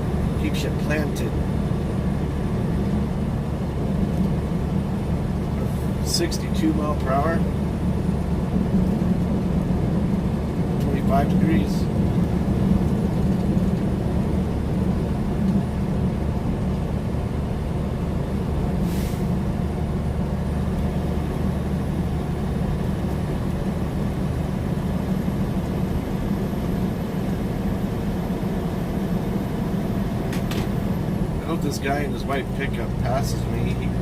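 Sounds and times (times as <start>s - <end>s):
truck engine and tyres droning: 0.0s - 34.0s.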